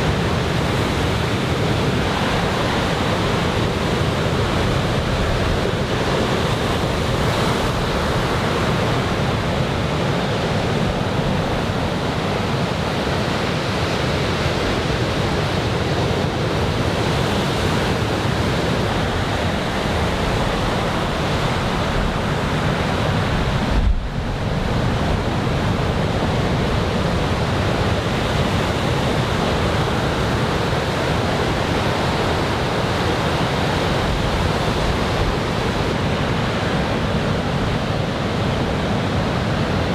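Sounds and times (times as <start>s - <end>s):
heavy surf breaking: 0.0s - 39.9s
wind on microphone: 0.0s - 39.9s.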